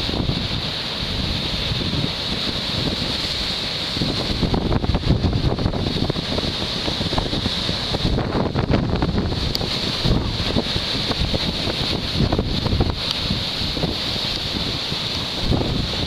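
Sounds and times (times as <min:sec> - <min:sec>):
sea surf hiss: 0:00.0 - 0:16.0
wind buffeting microphone: 0:00.0 - 0:16.0.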